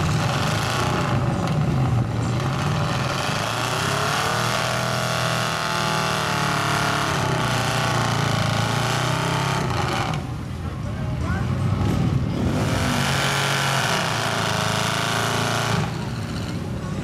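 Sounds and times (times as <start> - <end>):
truck engine revving: 0.0 - 10.5, 11.4 - 17.0.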